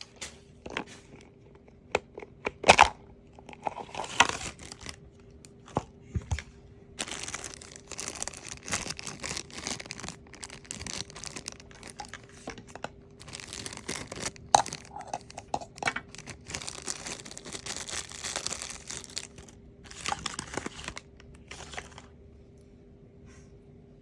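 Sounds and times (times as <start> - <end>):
packaging crinkling and tearing: 2.6 - 22.1.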